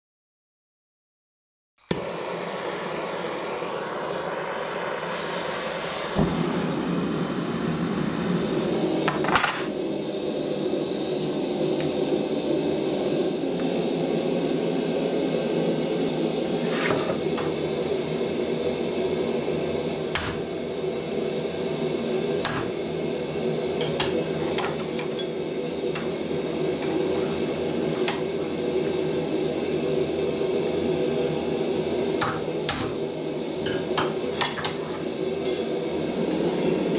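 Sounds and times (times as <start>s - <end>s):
gas forge burner roaring: 1.8s - 36.9s.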